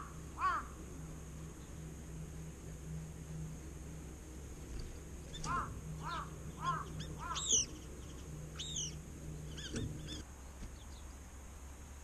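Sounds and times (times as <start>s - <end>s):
wild birds calling: 0.0s - 11.2s.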